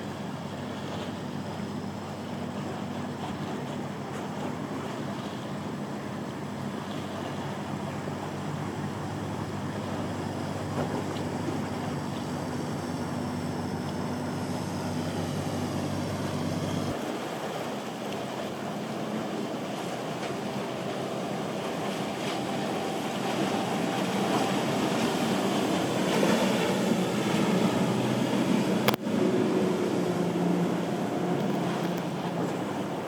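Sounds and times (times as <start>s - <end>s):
boat engines running: 0.0s - 33.0s
waves: 0.0s - 33.0s.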